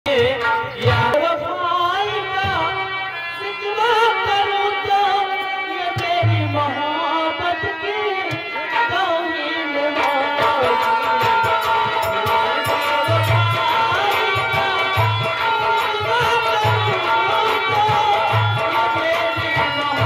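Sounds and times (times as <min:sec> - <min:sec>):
dholak drumming: 0:00.0 - 0:20.0
person singing sad folk song: 0:00.1 - 0:20.0.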